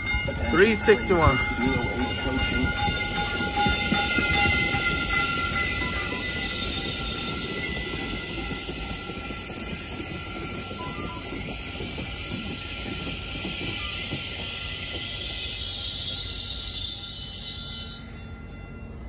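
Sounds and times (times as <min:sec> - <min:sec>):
high-pitched train whine: 0:00.0 - 0:19.0
train wheels rumbling on rails: 0:00.0 - 0:19.0.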